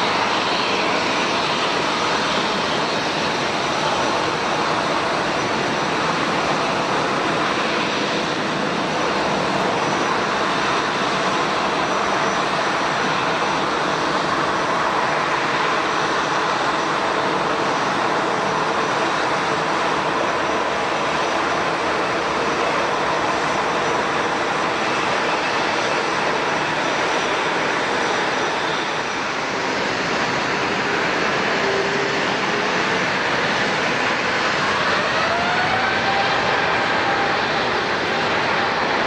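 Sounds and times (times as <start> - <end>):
jet engines rushing: 0.0 - 39.0.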